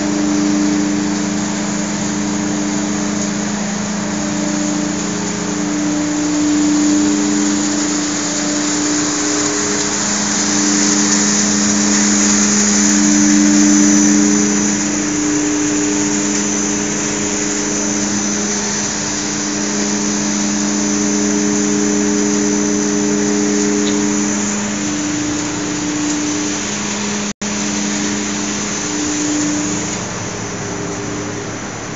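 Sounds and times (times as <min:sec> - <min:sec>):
blower machine hum: 0:00.0 - 0:31.9.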